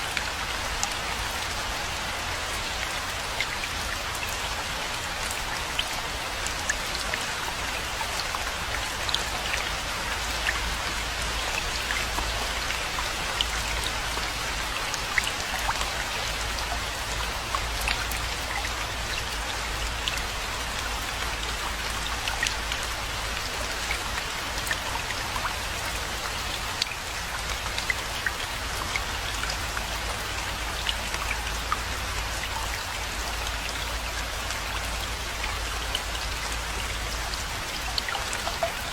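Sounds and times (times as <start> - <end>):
rain patter: 0.0 - 38.9.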